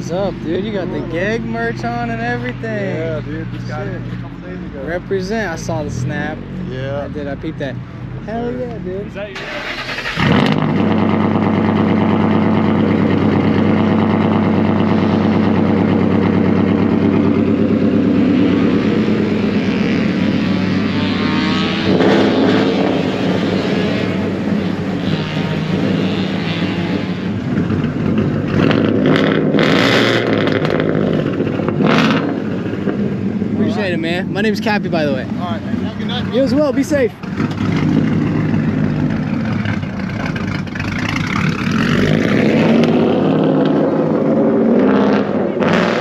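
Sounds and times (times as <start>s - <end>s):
car engine idling: 0.0s - 45.5s.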